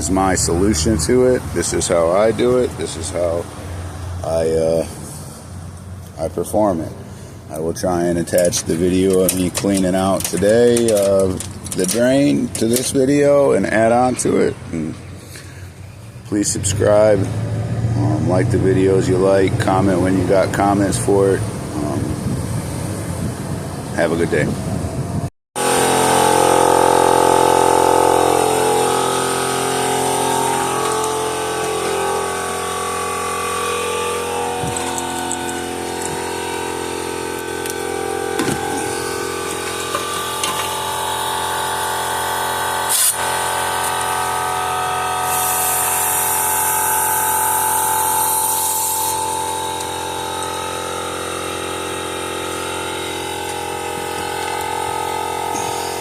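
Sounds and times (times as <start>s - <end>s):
air compressor running: 6.8s - 16.2s, 18.3s - 56.0s.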